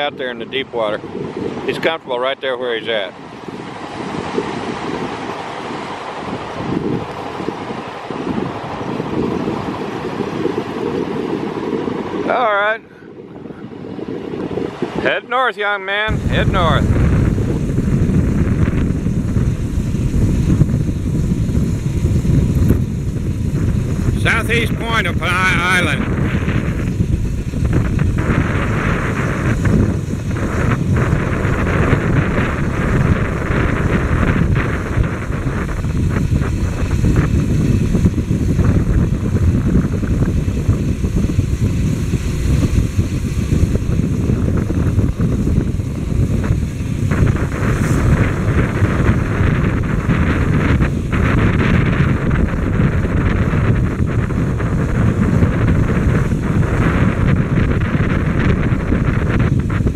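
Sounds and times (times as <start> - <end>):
motorcycle running: 0.0 - 15.2, 15.9 - 59.9
wind buffeting microphone: 0.0 - 59.9.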